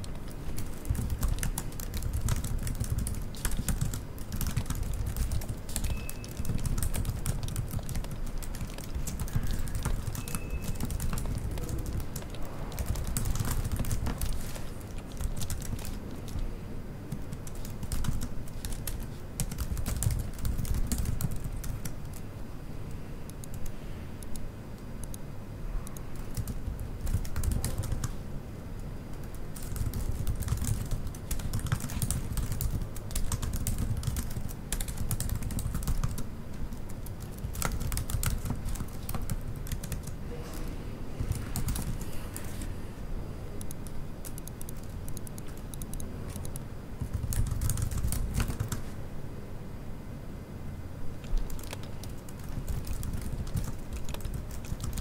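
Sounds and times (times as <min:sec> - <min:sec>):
keyboard typing clicks: 0:00.0 - 0:16.5, 0:17.1 - 0:22.2, 0:23.3 - 0:25.2, 0:25.8 - 0:28.1, 0:29.1 - 0:40.2, 0:41.2 - 0:42.5, 0:43.6 - 0:48.8, 0:51.2 - 0:55.0
low room rumble: 0:00.0 - 0:55.0.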